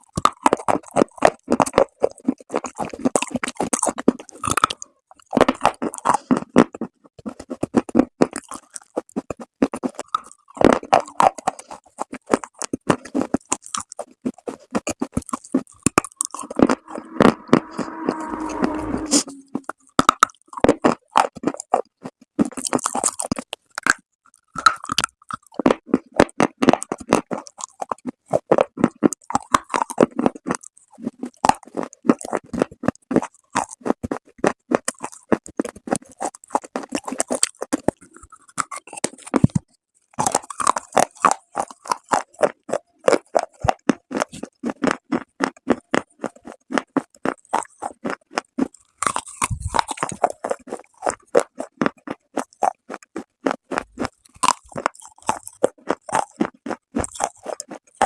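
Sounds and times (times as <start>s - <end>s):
chewing hard crumbly clay: 0.0s - 18.0s, 19.5s - 58.0s.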